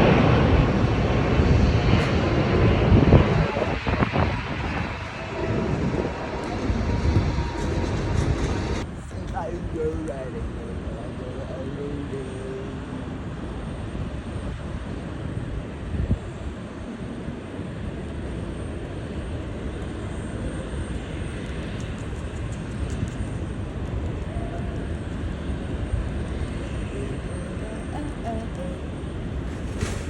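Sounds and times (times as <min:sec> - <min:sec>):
jet engine rumble and hiss: 0:00.0 - 0:30.0.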